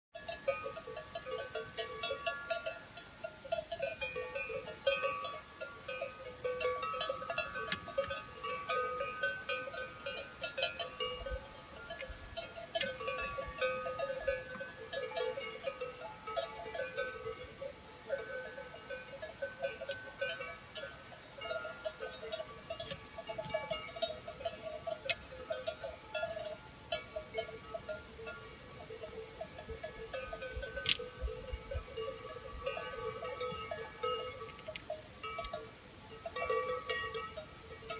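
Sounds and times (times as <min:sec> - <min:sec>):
cowbells clanking: 0:00.2 - 0:37.9.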